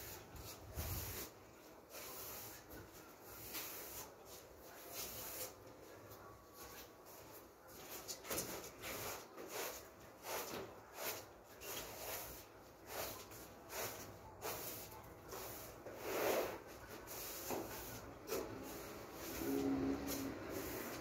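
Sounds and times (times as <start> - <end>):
broom sweeping: 0.0 - 5.6, 6.5 - 21.0.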